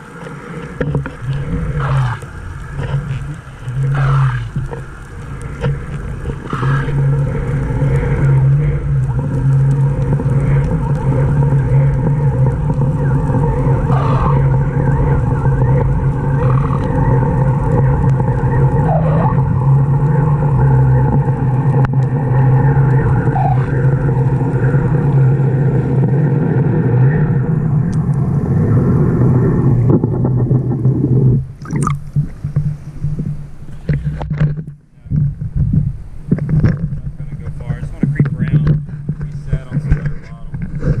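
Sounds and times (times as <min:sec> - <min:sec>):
choppy splashing water: 0:00.0 - 0:34.5
outboard engine hum underwater: 0:00.0 - 0:41.0.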